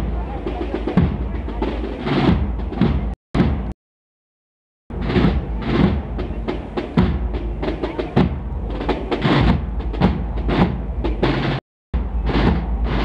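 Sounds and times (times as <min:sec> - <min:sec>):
processional band music with drums: 0:00.0 - 0:03.7, 0:04.9 - 0:13.0.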